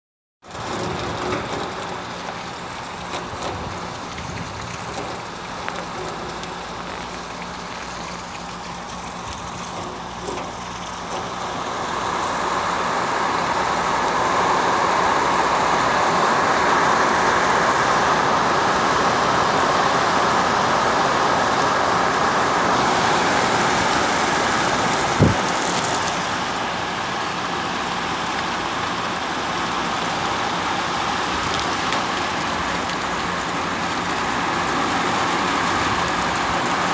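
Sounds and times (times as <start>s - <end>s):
heavy rain on pavement: 0.4s - 36.9s.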